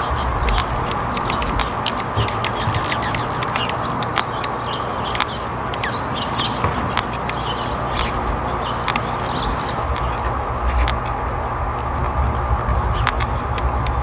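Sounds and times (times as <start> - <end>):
sharp ticks and taps: 0.0 - 14.0
small birds chirping: 0.0 - 14.0
steady background hiss: 0.0 - 14.0.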